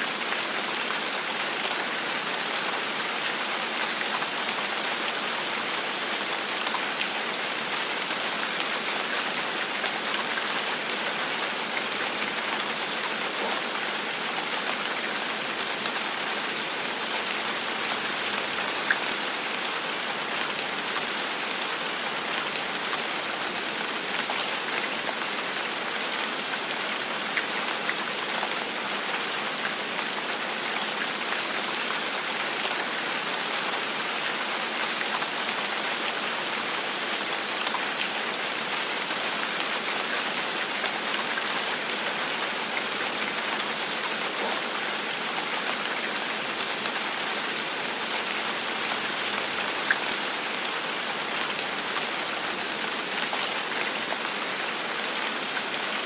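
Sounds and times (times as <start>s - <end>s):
rain falling on a surface: 0.0s - 56.0s.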